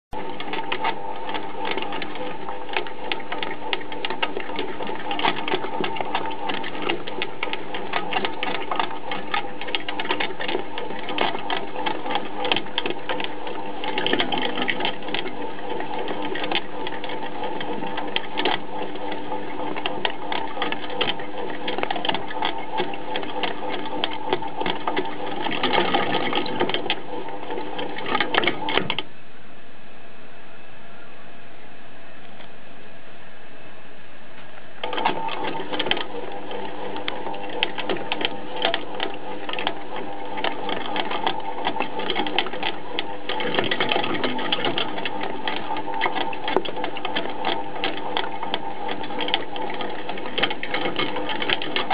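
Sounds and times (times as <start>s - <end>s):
rapid clicking: 0.1s - 29.0s, 34.8s - 51.9s
small machine running: 0.1s - 29.0s, 34.8s - 51.9s.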